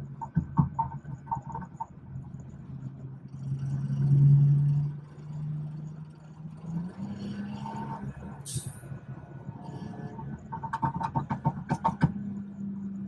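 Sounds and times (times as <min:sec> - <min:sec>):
car engine under throttle: 0:00.0 - 0:13.0.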